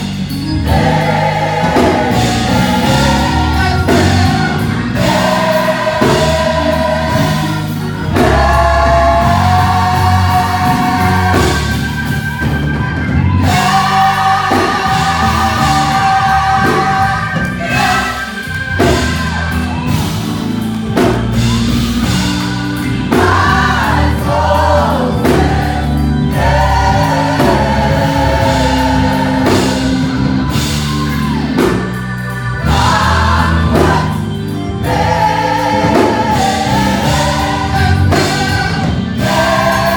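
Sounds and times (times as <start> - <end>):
band accompaniment with bass line: 0.0 - 39.9
gospel choir singing: 0.0 - 39.9.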